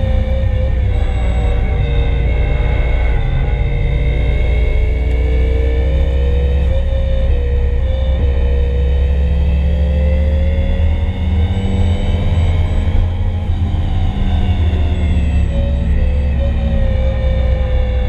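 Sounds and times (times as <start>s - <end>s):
turbocharged car engine under load: 0.0s - 18.0s.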